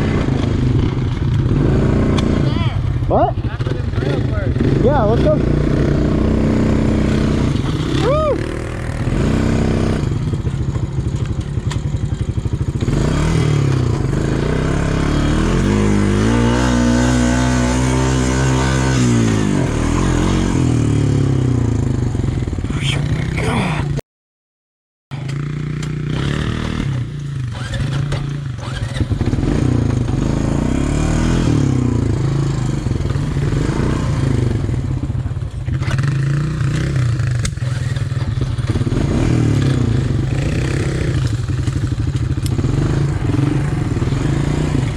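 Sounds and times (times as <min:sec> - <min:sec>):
atv engine revving: 0:00.0 - 0:24.0, 0:25.1 - 0:44.9.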